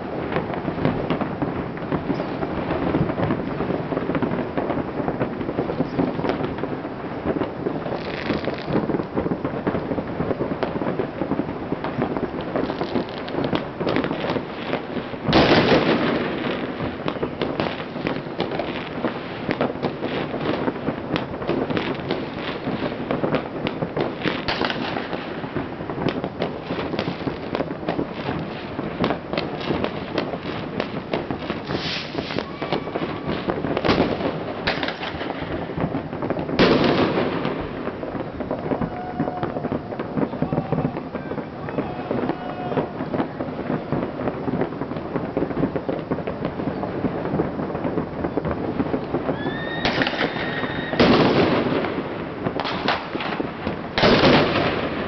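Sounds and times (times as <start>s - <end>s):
fireworks popping and crackling: 0.0s - 55.0s
loud fireworks bangs: 0.0s - 55.0s.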